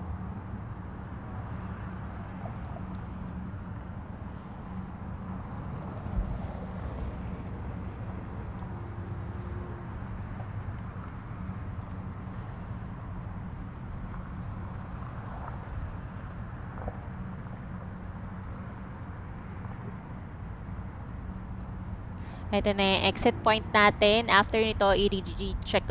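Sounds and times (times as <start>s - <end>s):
car engine and tyres rumbling: 0.0s - 25.9s.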